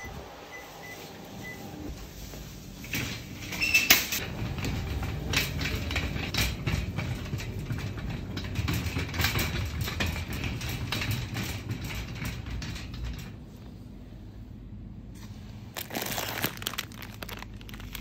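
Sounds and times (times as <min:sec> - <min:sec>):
shopping cart wheels rolling on tiles: 0:00.6 - 0:13.5, 0:15.8 - 0:18.0.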